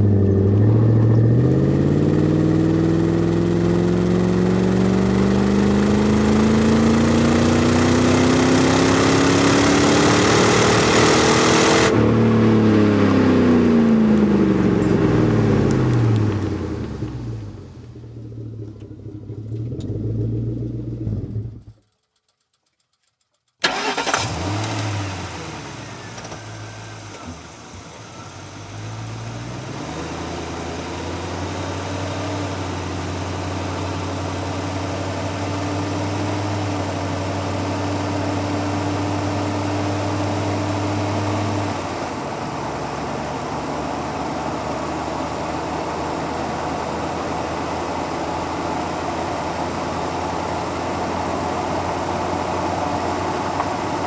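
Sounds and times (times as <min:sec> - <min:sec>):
car engine accelerating: 0:00.0 - 0:21.8, 0:23.6 - 0:54.0.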